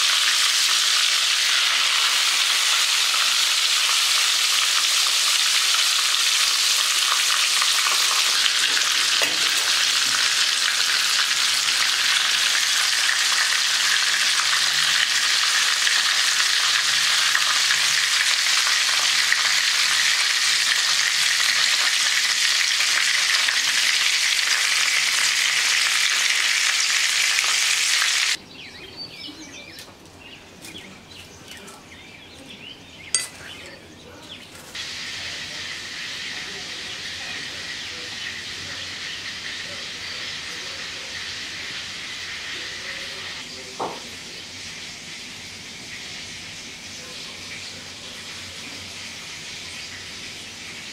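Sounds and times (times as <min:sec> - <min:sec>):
hot oil sizzling: 0:00.0 - 0:28.4, 0:33.1 - 0:50.9.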